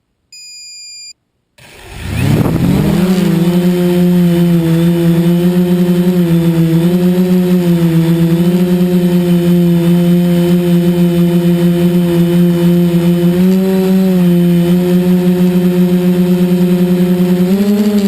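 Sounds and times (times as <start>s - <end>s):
quadcopter motors humming: 1.8s - 18.0s.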